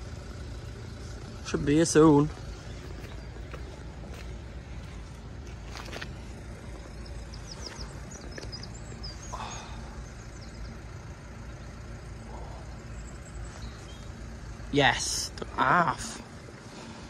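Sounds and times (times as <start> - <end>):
low background rumble: 0.0 - 17.0
bird chirping: 2.3 - 16.4.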